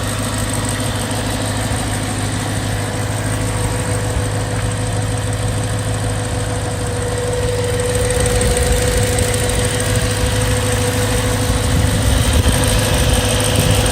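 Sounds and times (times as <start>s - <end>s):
car engine idling with ticking: 0.0s - 13.9s.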